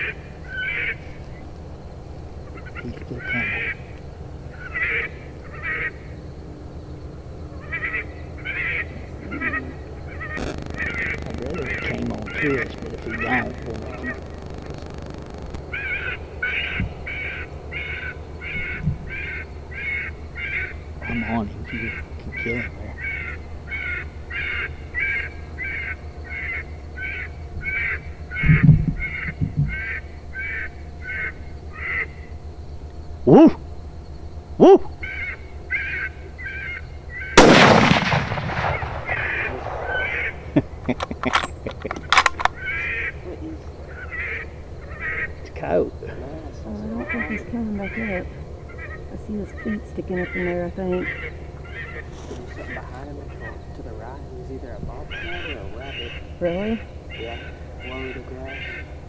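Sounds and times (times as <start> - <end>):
recorded bird call bursts: 0.0 - 32.5, 34.6 - 59.0.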